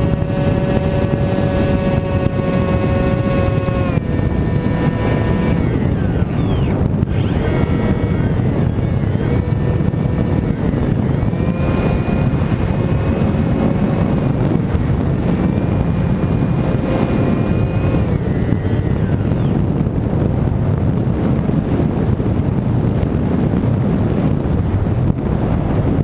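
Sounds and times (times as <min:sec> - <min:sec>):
model airplane motor whining: 0:00.0 - 0:21.0
wind rush on microphone: 0:00.0 - 0:26.0.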